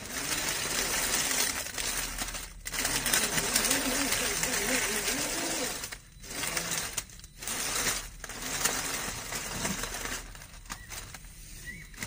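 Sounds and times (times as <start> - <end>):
dry leaves crackling under tyres: 0.0 - 12.0.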